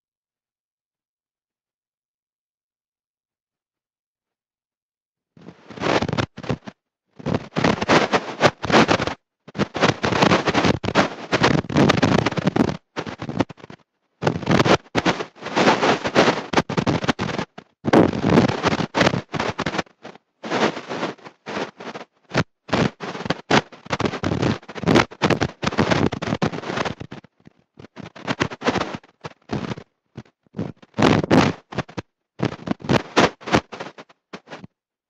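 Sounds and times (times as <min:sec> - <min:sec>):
distorted voice recording: 0:05.4 - 0:34.8.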